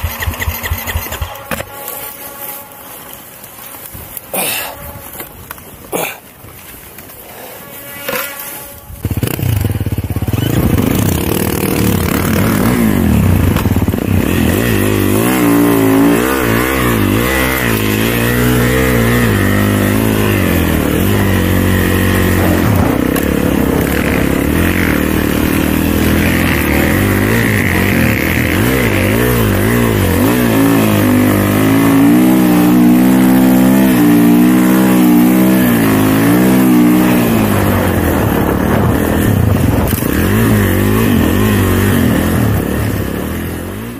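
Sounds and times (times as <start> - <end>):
dirt bike engine revving: 0.0 - 2.5, 7.6 - 43.9.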